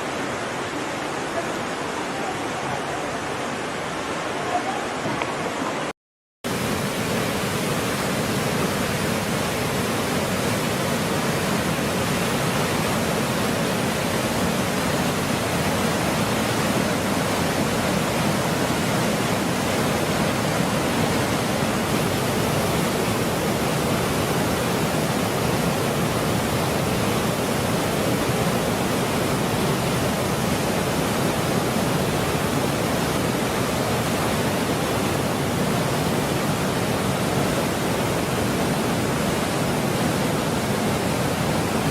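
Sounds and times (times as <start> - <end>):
waterfall rushing: 0.0 - 5.9, 6.5 - 41.9.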